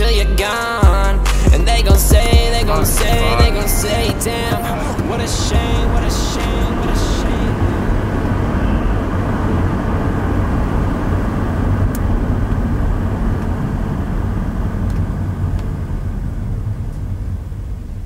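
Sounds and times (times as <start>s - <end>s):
engine and tyre rumble: 1.0s - 18.0s.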